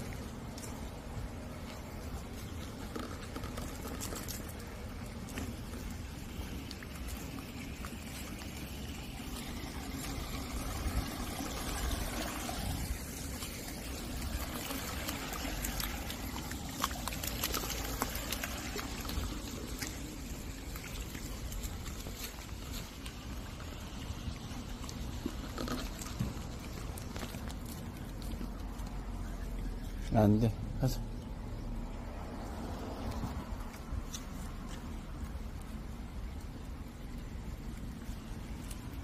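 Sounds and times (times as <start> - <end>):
running water trickling: 0.0 - 39.0.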